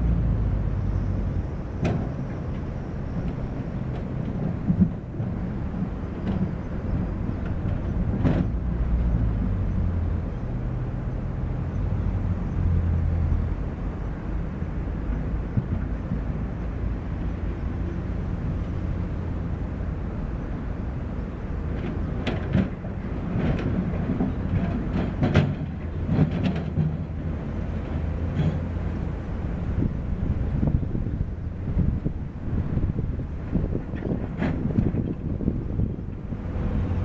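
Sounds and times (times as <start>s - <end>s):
diesel engine of heavy machinery: 0.0s - 37.0s.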